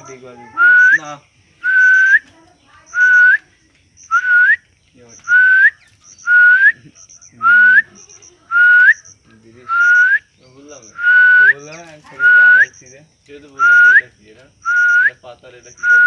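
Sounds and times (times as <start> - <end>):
bird whistling call: 0.0 - 2.3, 2.9 - 3.4, 4.0 - 4.6, 5.2 - 6.8, 7.4 - 12.8, 13.6 - 16.0.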